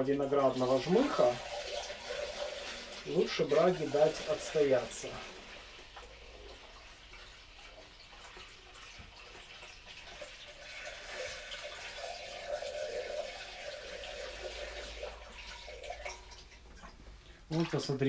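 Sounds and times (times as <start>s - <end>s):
liquid pouring into metal pot: 0.0s - 18.0s.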